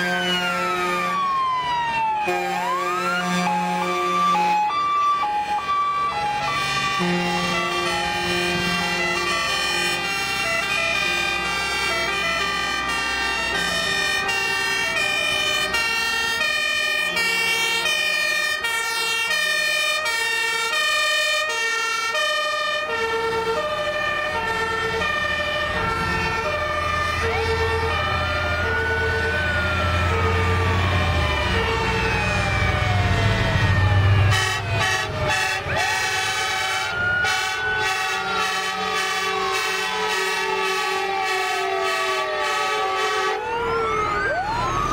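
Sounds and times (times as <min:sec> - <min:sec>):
diesel engines rumbling: 0:00.0 - 0:44.9
two-tone hi-lo siren: 0:00.0 - 0:44.9
wailing sirens: 0:00.0 - 0:44.9.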